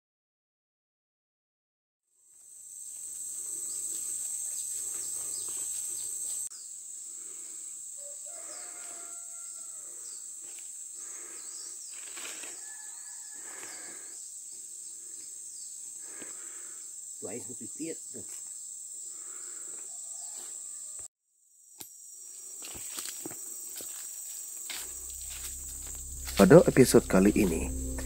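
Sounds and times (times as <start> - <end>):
high-pitched insect drone: 2.4 - 20.5, 21.8 - 28.0.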